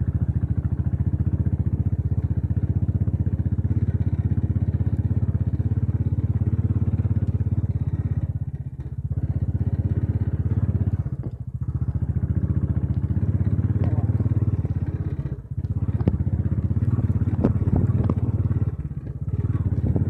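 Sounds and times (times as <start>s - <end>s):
motorcycle engine thumping: 0.0s - 20.0s.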